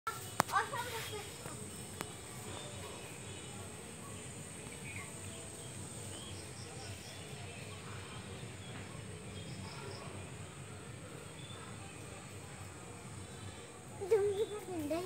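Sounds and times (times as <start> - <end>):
insect drone: 0.1 - 15.0
faint bird chirps: 0.8 - 15.0.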